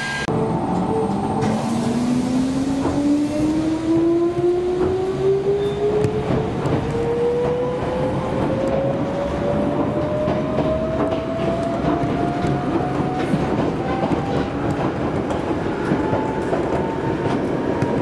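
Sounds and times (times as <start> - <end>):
train running rumble: 0.4 - 18.0.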